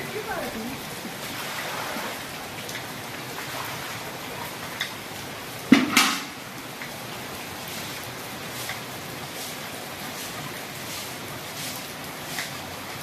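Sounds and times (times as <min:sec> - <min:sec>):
rain on paving: 0:00.0 - 0:13.0.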